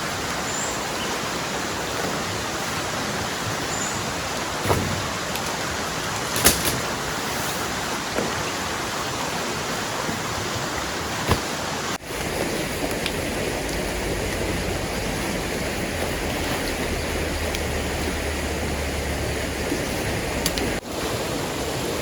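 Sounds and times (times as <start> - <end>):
fast-flowing river: 0.0 - 22.0
heavy rain: 0.0 - 22.0.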